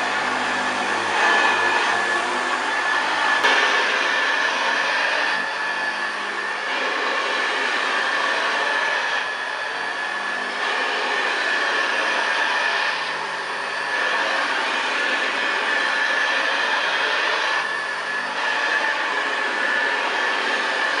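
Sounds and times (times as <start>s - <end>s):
upright vacuum cleaner running: 0.0s - 21.0s.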